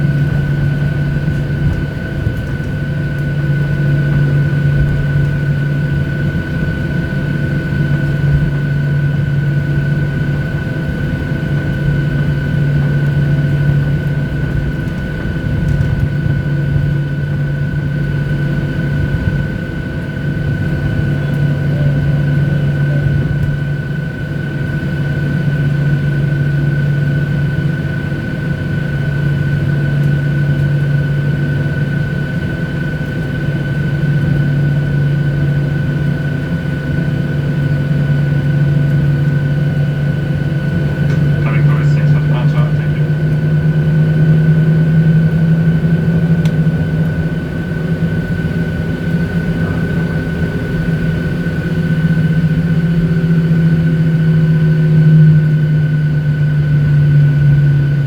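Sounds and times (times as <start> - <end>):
airliner engine drone in cabin: 0.0 - 58.0.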